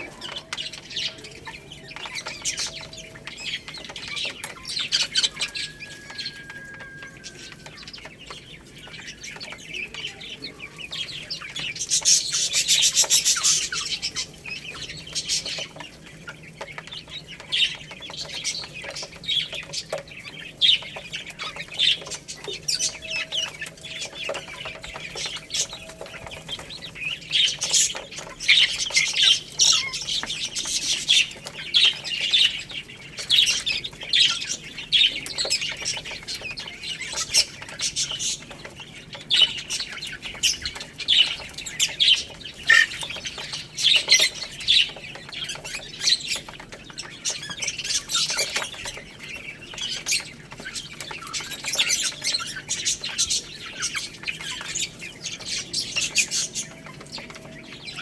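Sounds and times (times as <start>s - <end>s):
baby chicks chirping: 0.0s - 58.0s.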